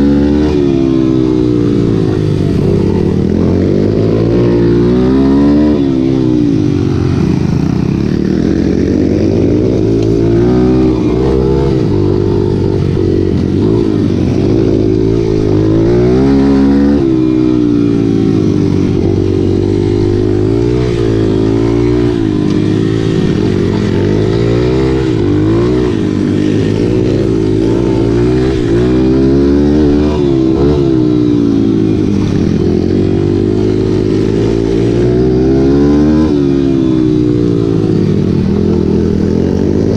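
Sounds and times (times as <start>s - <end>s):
racing motorcycle engines revving: 0.0s - 39.9s.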